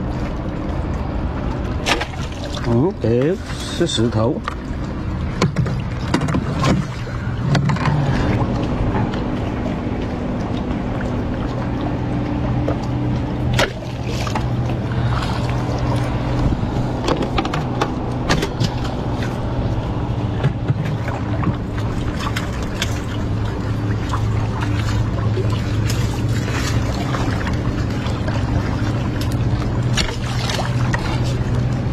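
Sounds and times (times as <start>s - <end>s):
boat motor humming: 0.0s - 31.9s
water splashes: 0.0s - 31.9s.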